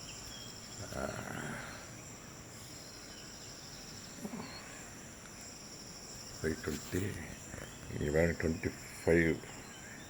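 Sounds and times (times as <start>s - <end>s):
crickets trilling: 0.0s - 10.0s
faint bird chirps: 0.0s - 10.0s.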